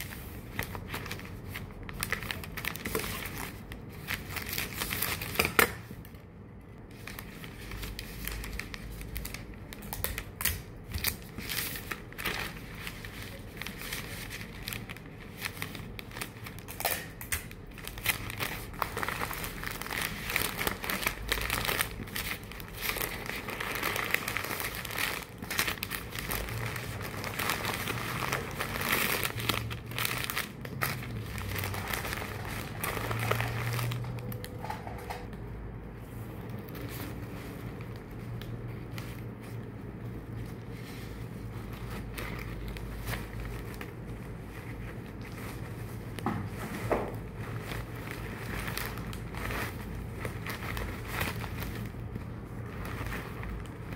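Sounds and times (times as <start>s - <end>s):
crinkling and rustling: 0.0s - 53.9s.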